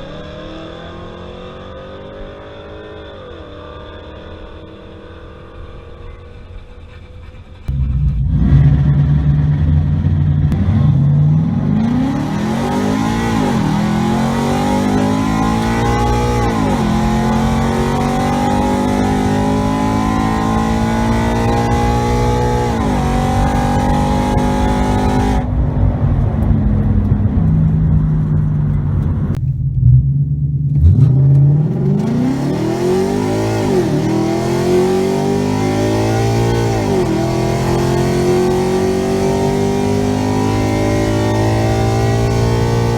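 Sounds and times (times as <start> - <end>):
car engine revving through gears: 0.0 - 42.9.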